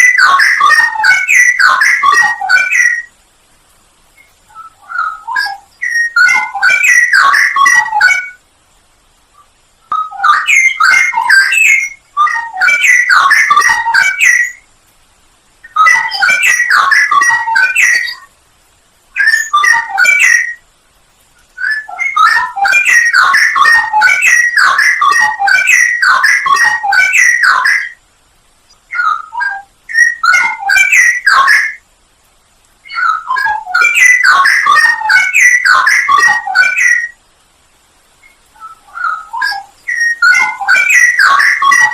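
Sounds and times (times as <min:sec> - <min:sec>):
bird singing whistled phrases: 0:00.0 - 0:03.1, 0:04.2 - 0:08.4, 0:09.4 - 0:14.6, 0:15.6 - 0:18.3, 0:19.2 - 0:20.6, 0:21.6 - 0:28.0, 0:28.9 - 0:31.8, 0:32.8 - 0:37.2, 0:38.2 - 0:41.9.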